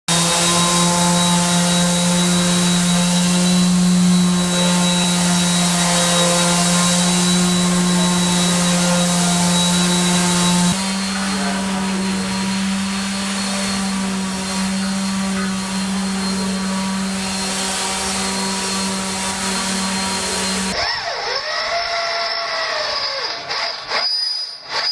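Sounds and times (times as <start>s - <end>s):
motor humming with high whine: 0.1s - 20.8s.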